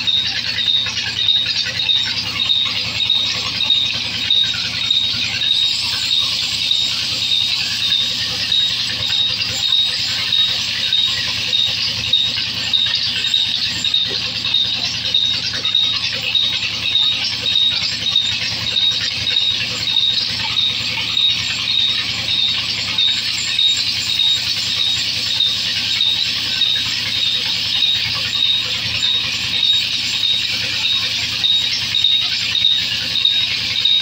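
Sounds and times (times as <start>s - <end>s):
band saw whining: 0.0s - 34.0s
low machine hum: 0.0s - 34.0s.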